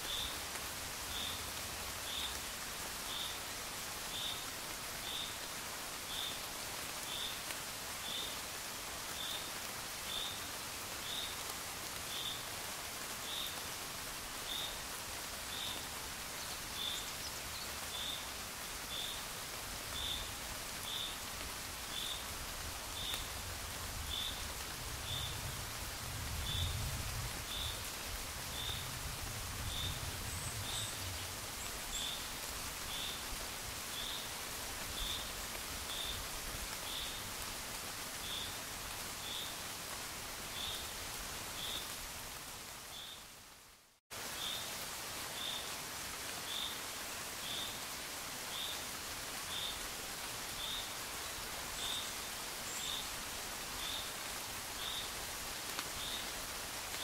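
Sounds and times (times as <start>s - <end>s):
gentle rain: 0.0s - 57.0s.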